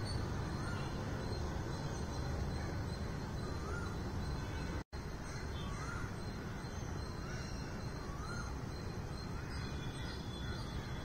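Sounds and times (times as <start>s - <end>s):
bird calling: 0.0s - 11.0s.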